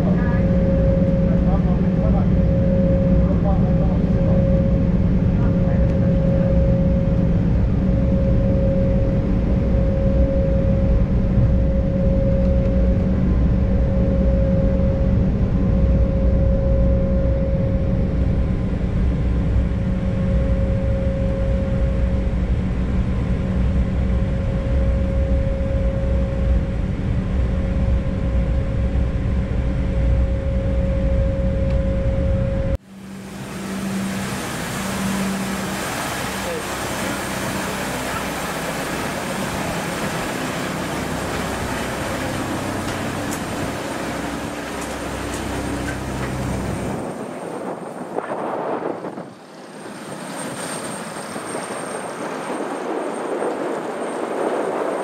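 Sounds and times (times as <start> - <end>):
constant mid-pitched hum: 0.0 - 51.9
jet engines rumbling: 0.0 - 55.0.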